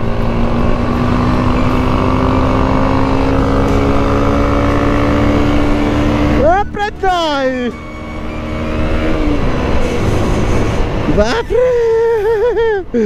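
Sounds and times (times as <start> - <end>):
motorcycle engine at high revs: 0.0 - 10.9
low wind rumble: 0.0 - 13.0.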